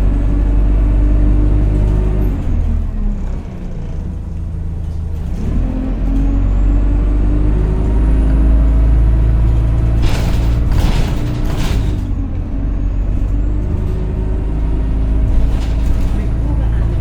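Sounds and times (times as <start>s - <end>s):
bus engine accelerating: 0.0s - 17.0s.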